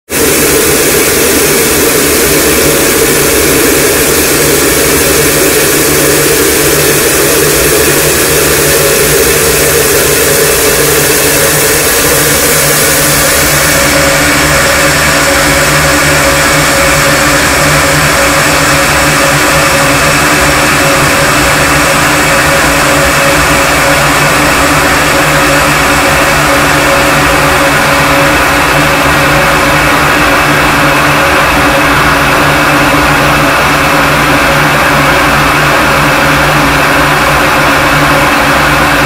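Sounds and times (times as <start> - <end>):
distorted static noise: 0.1 - 39.0
droning bands: 0.1 - 39.0.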